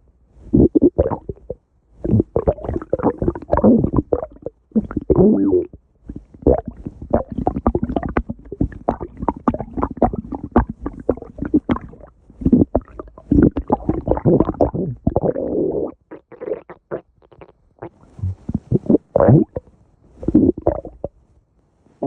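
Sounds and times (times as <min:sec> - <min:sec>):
stomach growling: 0:00.5 - 0:21.2.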